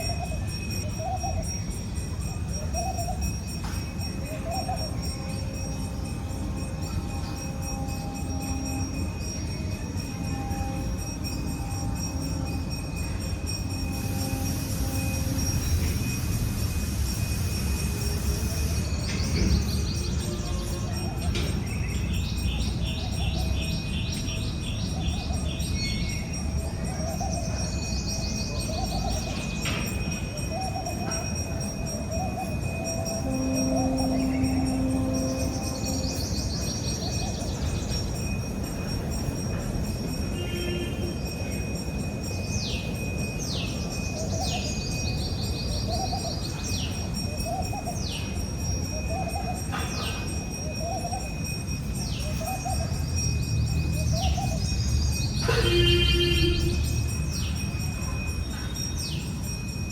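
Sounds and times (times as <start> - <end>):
songbird chirping: 0.0 - 40.3, 41.1 - 59.5.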